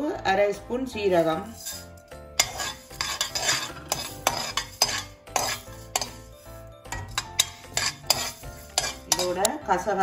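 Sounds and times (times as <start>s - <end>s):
metal spoon scraping a steel pan: 1.0s - 9.6s.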